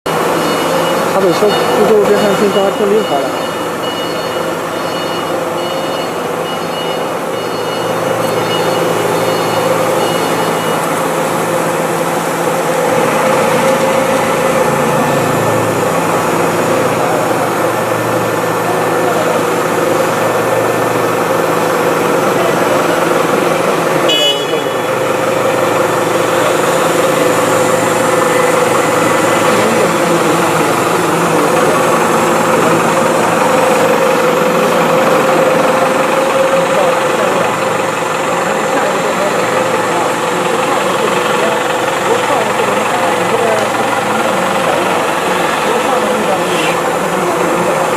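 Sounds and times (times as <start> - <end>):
cnc router cutting: 0.1 - 47.9.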